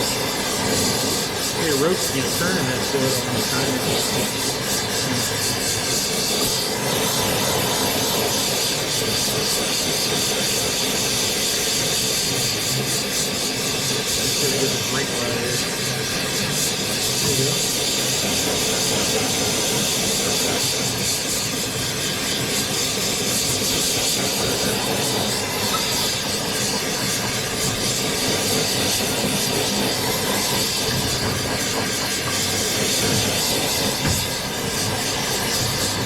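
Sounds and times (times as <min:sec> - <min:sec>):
gas hissing under pressure: 0:00.0 - 0:36.0.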